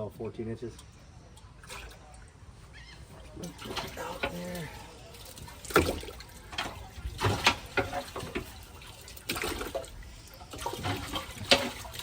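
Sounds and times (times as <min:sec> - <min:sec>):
water splashing and sloshing: 0:00.8 - 0:12.0.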